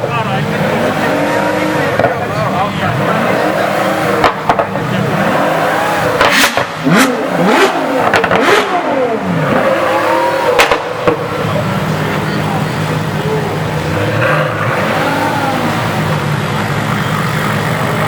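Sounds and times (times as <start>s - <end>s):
car engines revving: 0.0s - 18.0s
exhaust cracks: 0.0s - 18.0s.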